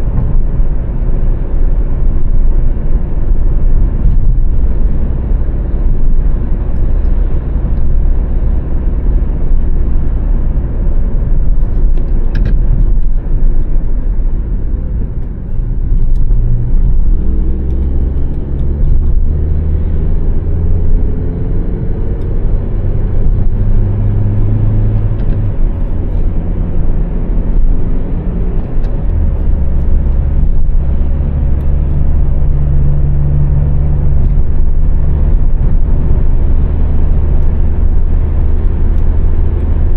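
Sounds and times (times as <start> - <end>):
car engine running: 0.0 - 39.9
low road rumble: 0.0 - 39.9.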